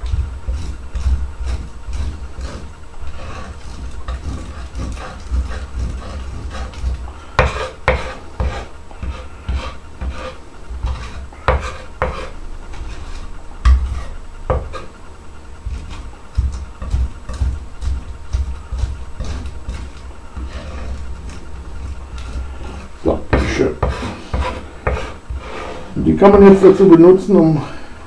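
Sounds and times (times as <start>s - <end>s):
knife scraping wooden board: 0.0s - 15.0s, 15.6s - 26.0s.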